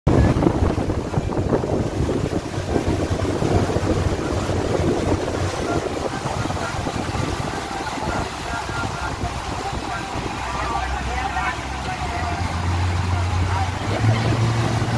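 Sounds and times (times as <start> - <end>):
motorboat engine running: 0.1 - 14.9
water rushing in wake: 0.1 - 14.9
wind buffeting microphone: 0.1 - 14.9.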